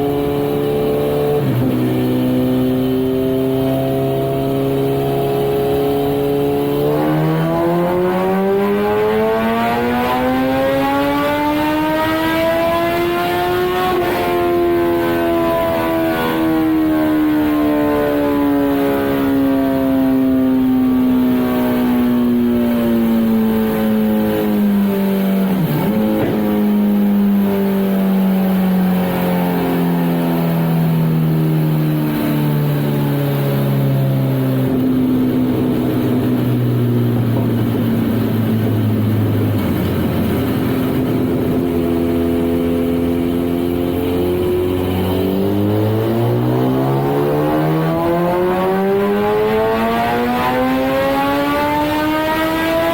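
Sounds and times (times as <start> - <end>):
motorcycle engine on dyno: 0.0 - 52.9.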